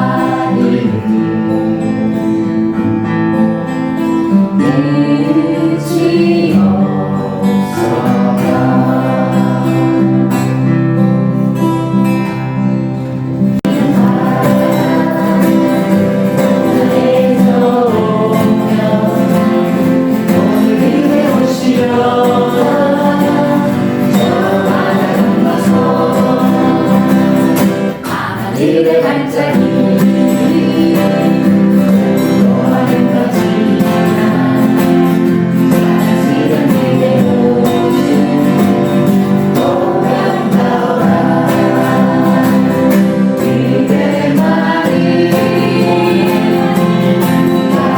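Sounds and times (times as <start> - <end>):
voices singing: 0.0 - 2.6, 4.3 - 10.9, 13.5 - 47.9
instrumental accompaniment: 0.0 - 47.9.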